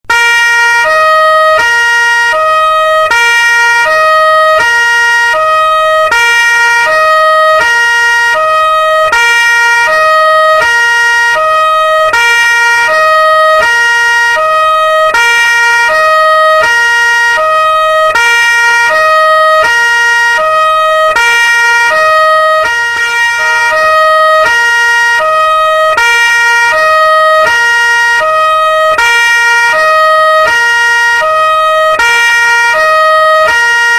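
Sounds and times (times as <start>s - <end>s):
police two-tone siren: 0.0s - 33.9s.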